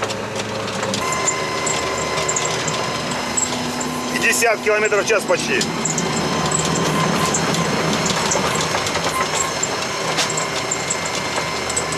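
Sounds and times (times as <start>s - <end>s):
vehicle engine drone: 0.0s - 11.9s.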